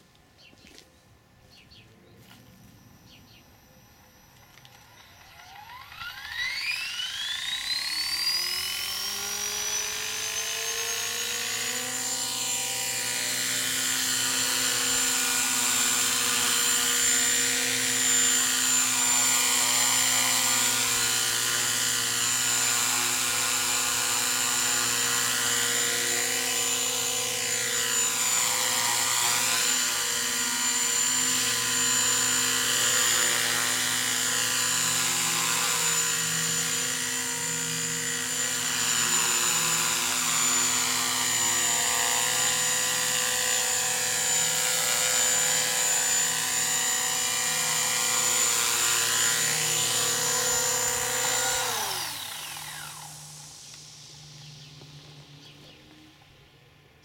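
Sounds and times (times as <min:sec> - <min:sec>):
rc helicopter motor whine: 0:01.7 - 0:56.6.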